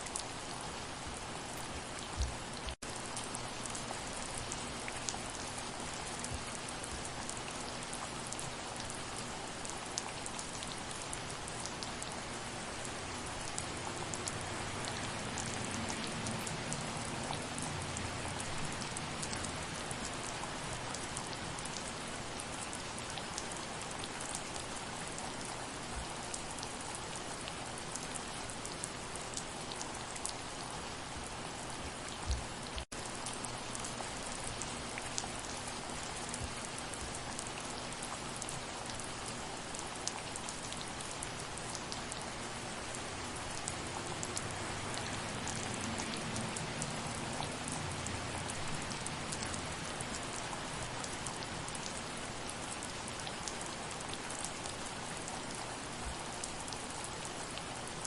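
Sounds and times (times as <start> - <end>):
soft rain: 0.0 - 58.0.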